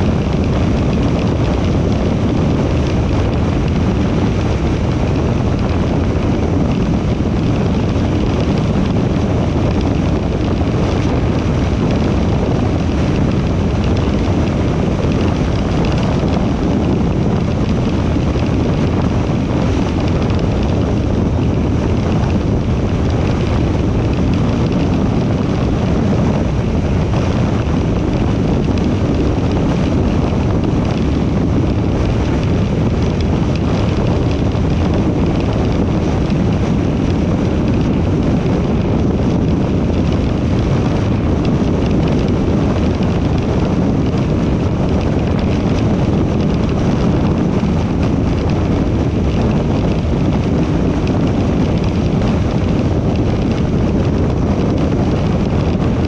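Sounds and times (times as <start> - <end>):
car road and wind noise: 0.0 - 56.0
wind rumbling on microphone: 0.0 - 56.0.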